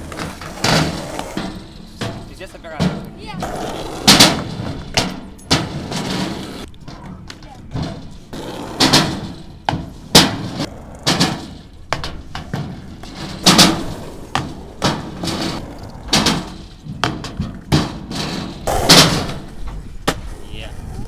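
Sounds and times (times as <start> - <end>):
skateboards rolling over asphalt: 0.0 - 2.3, 3.1 - 21.0
skateboard clacks and thuds: 0.0 - 21.0.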